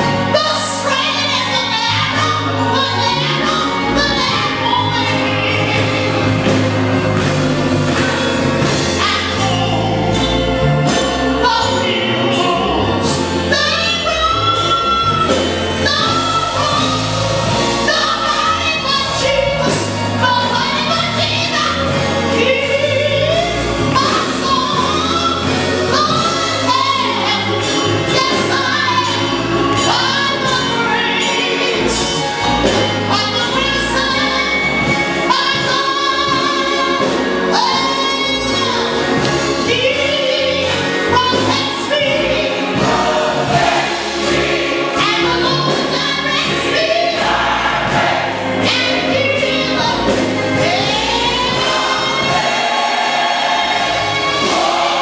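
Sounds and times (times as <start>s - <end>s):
gospel choir singing: 0.0s - 55.0s.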